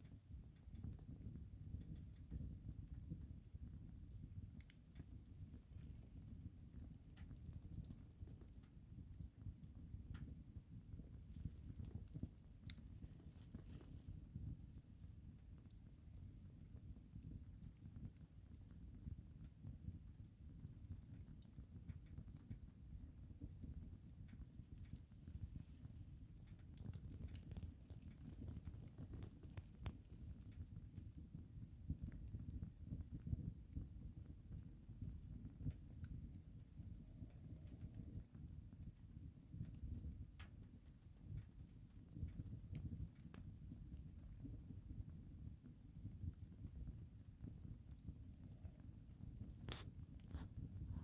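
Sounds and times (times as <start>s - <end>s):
campfire crackling: 0.0s - 51.0s
low fire rumble: 0.0s - 51.0s.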